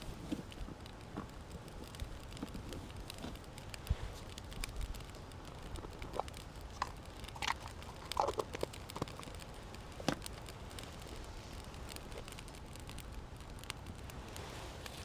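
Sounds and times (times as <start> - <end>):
twigs crackling in a stove: 0.0 - 15.0.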